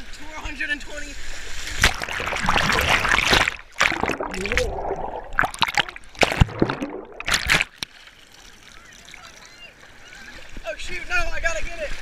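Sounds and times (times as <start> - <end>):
sea water splashing: 1.0 - 11.1.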